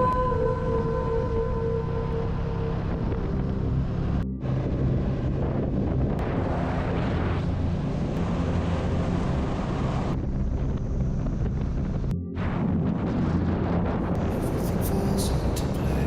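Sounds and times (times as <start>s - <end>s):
wind buffeting microphone: 2.3s - 15.7s.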